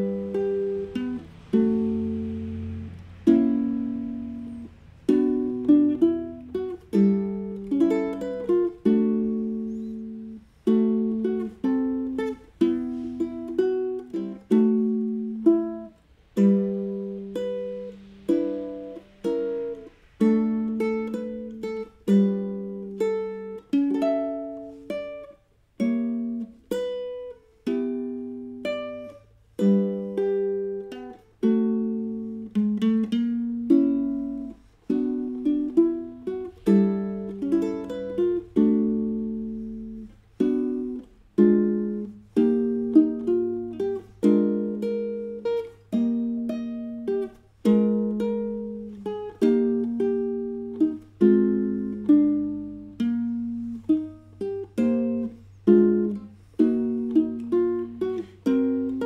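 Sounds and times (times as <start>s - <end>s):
ukulele plucked chords and melody: 0.0s - 59.0s.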